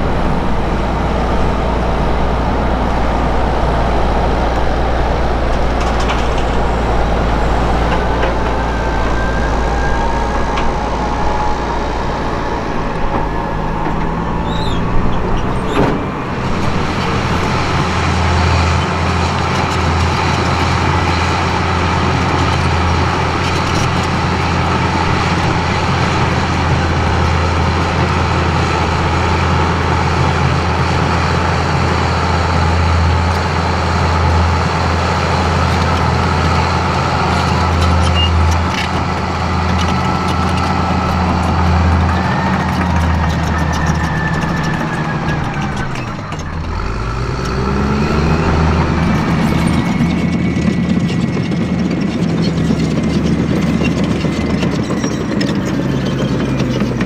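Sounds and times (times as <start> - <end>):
bulldozer engine under load: 0.0 - 57.0
tractor diesel engine running: 0.0 - 57.0.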